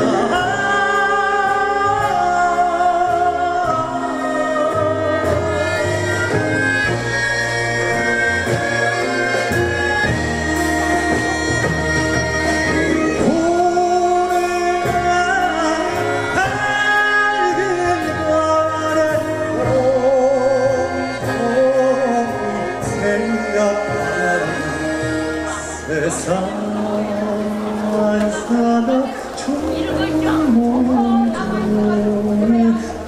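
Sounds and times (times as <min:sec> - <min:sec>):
man singing with vibrato: 0:00.0 - 0:33.0.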